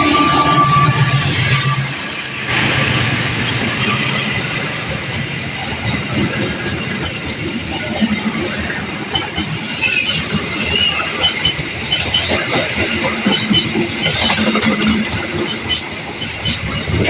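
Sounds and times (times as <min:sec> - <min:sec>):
train rushing past: 0:00.0 - 0:17.0.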